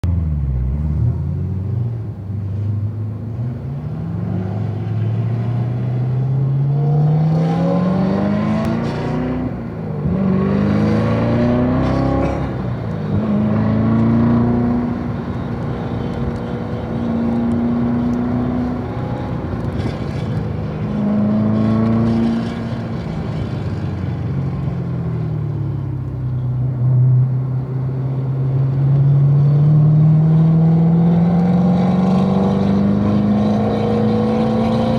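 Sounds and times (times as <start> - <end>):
sports car engine accelerating: 0.1 - 34.9.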